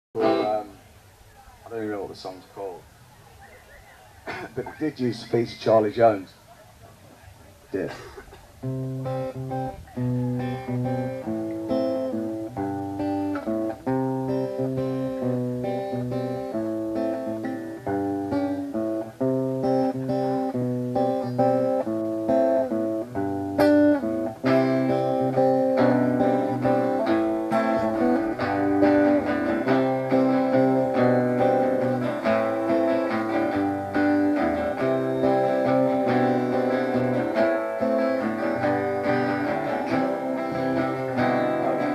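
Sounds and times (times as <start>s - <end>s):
acoustic guitars playing: 0.2s - 41.9s.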